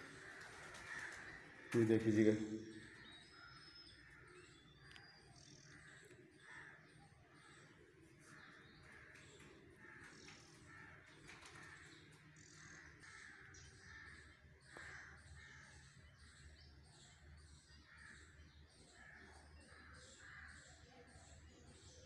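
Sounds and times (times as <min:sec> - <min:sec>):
faint birds calling: 0:00.0 - 0:22.0.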